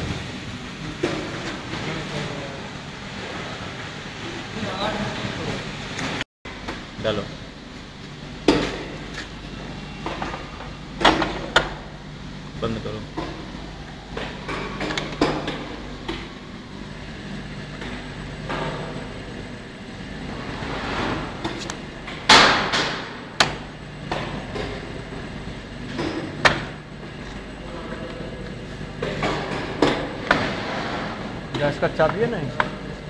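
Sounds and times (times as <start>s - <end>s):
industrial machinery hum: 0.0s - 33.0s.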